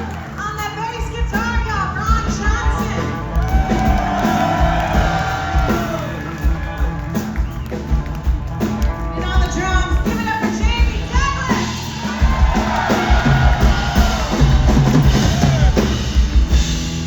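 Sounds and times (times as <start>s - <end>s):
blues-rock band playing: 0.0s - 17.0s.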